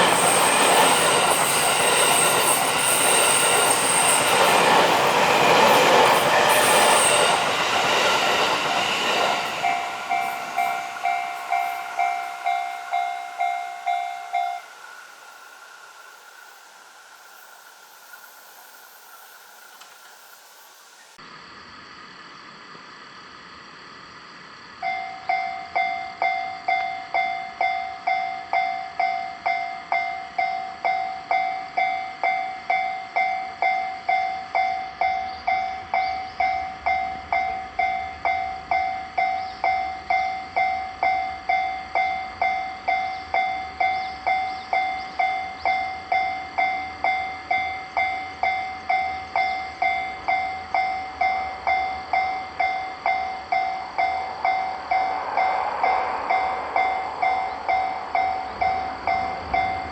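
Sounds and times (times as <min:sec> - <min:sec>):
level-crossing warning bell: 0:00.0 - 0:18.6, 0:24.8 - 0:59.9.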